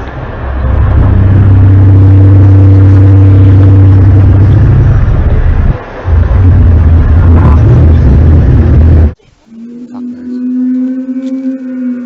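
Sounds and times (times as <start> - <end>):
loud low droning hum: 0.0 - 12.0.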